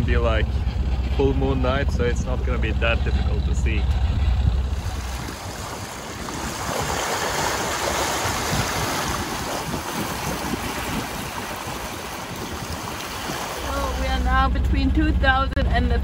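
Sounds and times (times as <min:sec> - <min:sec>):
bow wave rushing along hull: 0:00.0 - 0:16.0
low rumble: 0:00.0 - 0:16.0.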